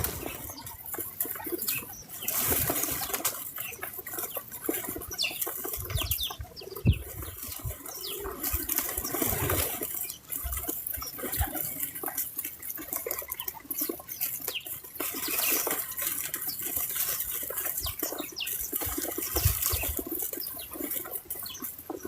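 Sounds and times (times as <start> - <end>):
patter of small clicks and rustles: 0.0 - 22.0.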